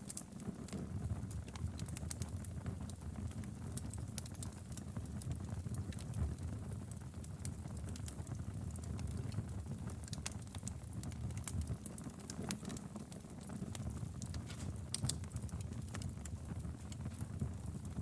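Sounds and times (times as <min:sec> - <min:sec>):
fire crackling and popping: 0:00.0 - 0:18.0
rumble of flames: 0:00.1 - 0:18.0.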